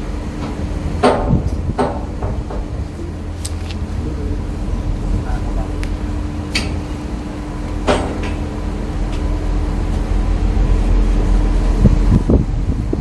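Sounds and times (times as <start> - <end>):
constant hum: 0.0 - 13.0
low rumble: 0.0 - 13.0.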